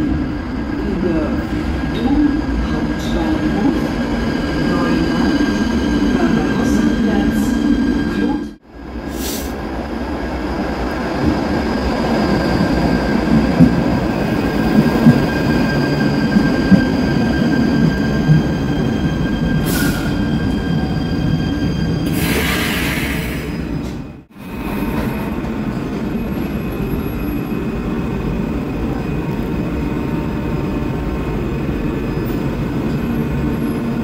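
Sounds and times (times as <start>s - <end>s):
light-rail train rumble: 0.0s - 34.0s.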